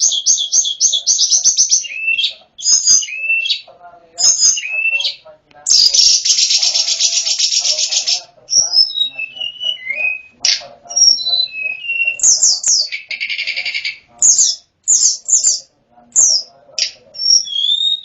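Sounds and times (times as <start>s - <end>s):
harsh rattling bird call: 0.0s - 10.2s, 10.9s - 18.0s
songbird whistling song: 0.0s - 18.0s.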